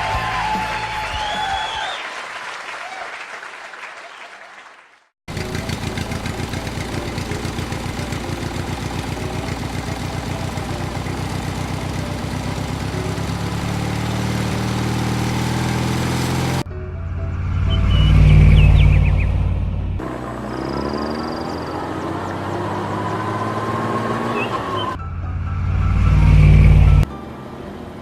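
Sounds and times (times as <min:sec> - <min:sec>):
vehicle engine pulsing: 0:05.3 - 0:28.0.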